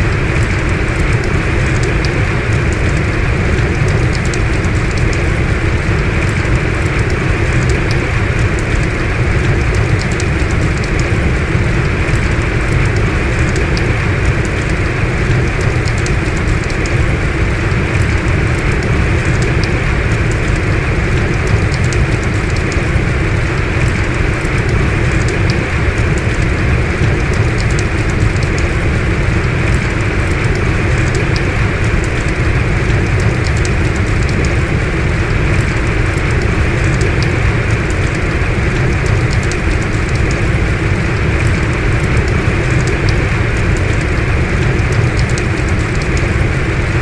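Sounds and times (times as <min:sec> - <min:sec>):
heavy rain falling: 0:00.0 - 0:47.0
raindrop ticks: 0:00.0 - 0:47.0.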